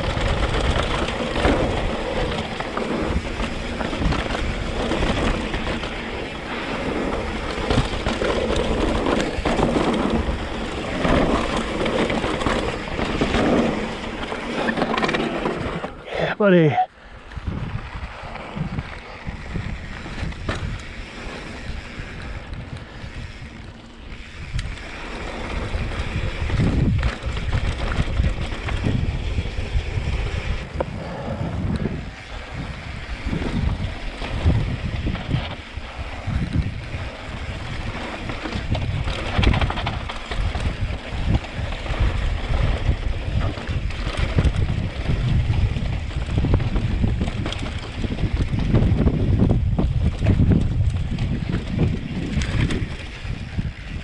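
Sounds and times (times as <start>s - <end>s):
wind buffeting microphone: 0.0s - 16.1s, 17.1s - 54.0s
tyres rolling on dirt: 0.0s - 54.0s.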